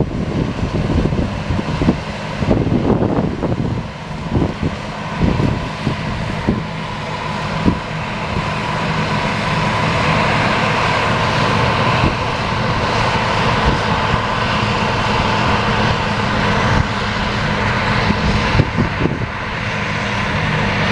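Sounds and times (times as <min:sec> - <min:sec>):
harvester engine drone: 0:00.0 - 0:20.9
rushing crop noise: 0:00.0 - 0:20.9.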